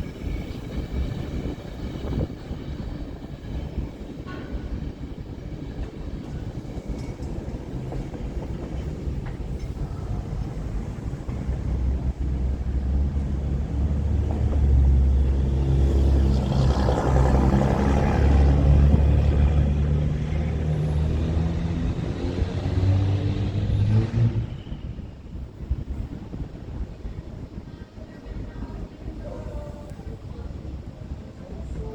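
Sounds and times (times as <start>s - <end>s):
freight train rumbling past: 0.0s - 31.9s.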